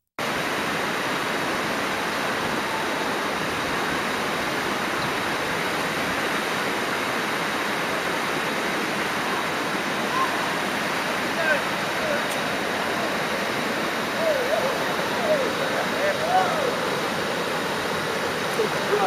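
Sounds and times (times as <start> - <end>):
waterfall rushing over rock: 0.2 - 19.0.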